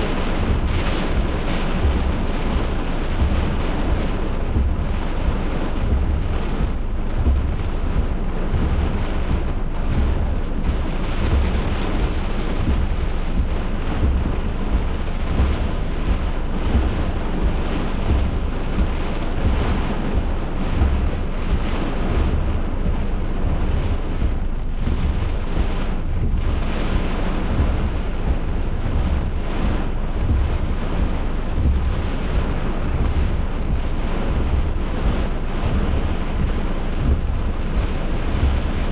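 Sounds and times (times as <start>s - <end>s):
low thunder rumble: 0.0s - 38.9s
wind-driven rain rushing: 0.0s - 38.9s.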